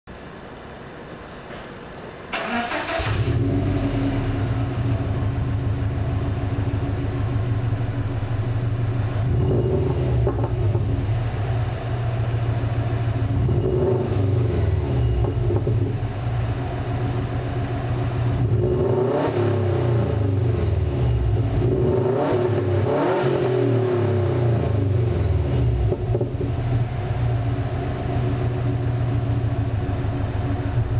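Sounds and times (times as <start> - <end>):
car engine idling and revving: 2.5 - 30.9.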